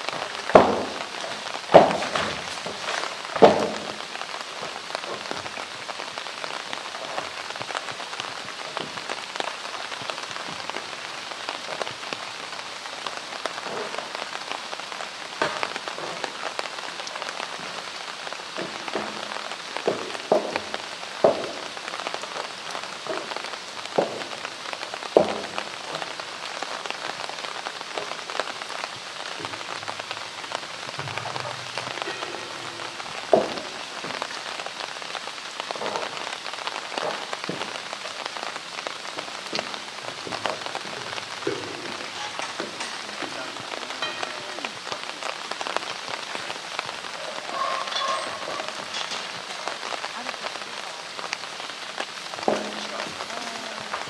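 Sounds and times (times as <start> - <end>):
steady hiss: 0.0 - 54.0.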